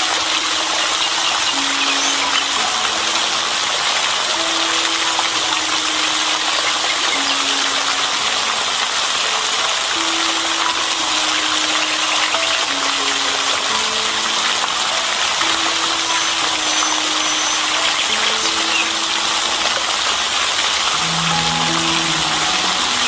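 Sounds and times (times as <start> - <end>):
fountain water splashing: 0.0 - 23.0
soft slow background music: 0.0 - 23.0.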